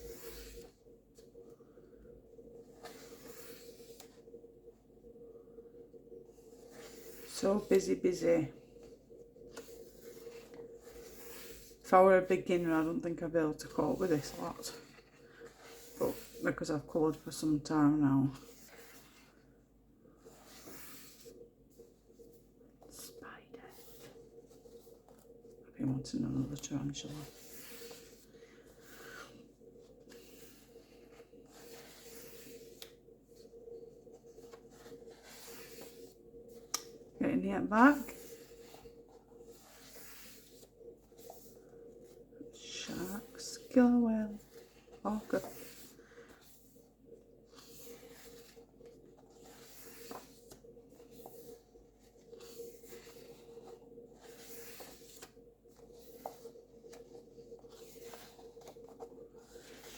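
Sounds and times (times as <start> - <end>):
faint steady hum: 0.0 - 59.9
paper pages rustling: 6.4 - 12.9, 13.5 - 25.6, 26.4 - 37.2, 37.9 - 59.9.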